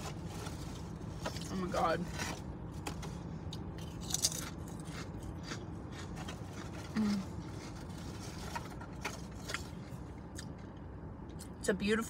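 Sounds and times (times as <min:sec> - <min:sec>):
crunching chewing of crispy chip: 0:00.0 - 0:10.8.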